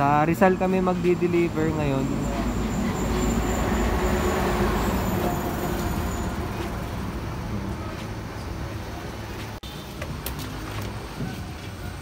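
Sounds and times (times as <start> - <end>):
engine and road traffic rumble: 0.0 - 12.0.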